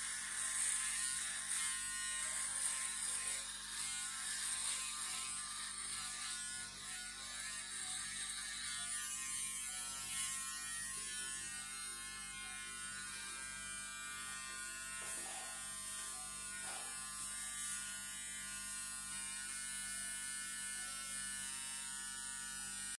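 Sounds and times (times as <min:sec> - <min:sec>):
electric beard trimmer buzzing: 0:00.0 - 0:23.0.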